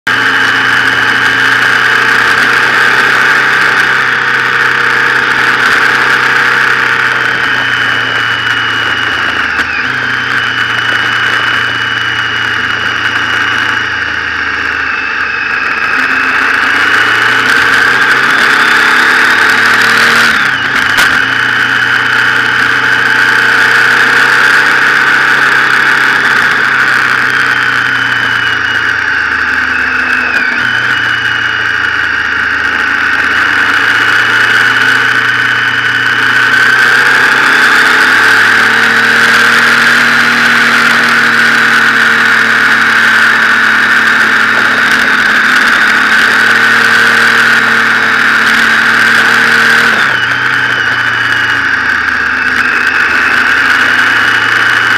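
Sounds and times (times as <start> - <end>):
motorcycle engine running: 0.0 - 54.9
wind and road noise: 0.1 - 54.9.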